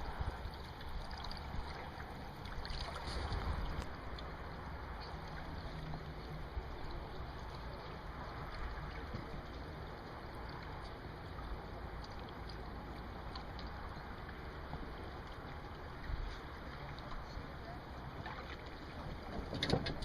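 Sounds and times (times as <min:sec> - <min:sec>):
water on a lake: 0:00.0 - 0:20.0
wind: 0:00.0 - 0:20.0.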